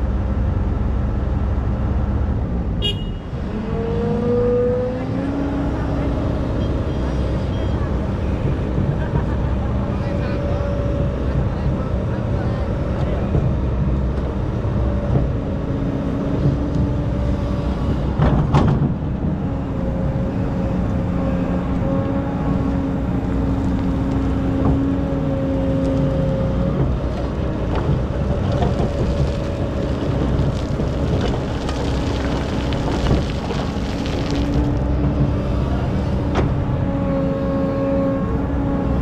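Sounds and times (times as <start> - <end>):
excavator diesel engine running: 5.2 - 39.0.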